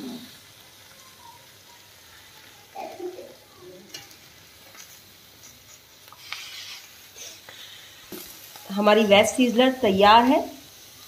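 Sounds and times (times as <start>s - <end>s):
hot plate sizzling: 0.0s - 11.0s.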